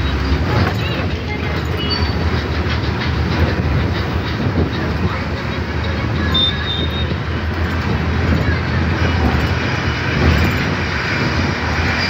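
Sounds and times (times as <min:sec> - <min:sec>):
bus engine running: 0:00.0 - 0:12.0
road and wind noise: 0:00.0 - 0:12.0.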